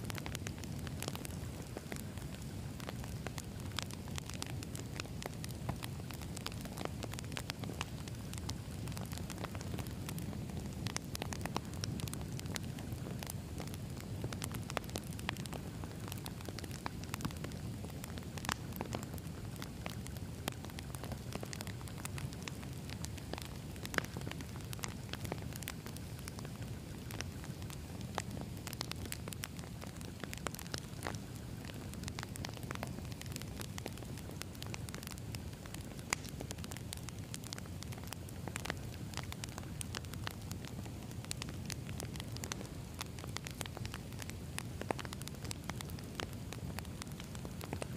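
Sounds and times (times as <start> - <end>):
burning logs crackling and popping: 0.0 - 47.9
campfire flames rumbling: 0.0 - 47.9.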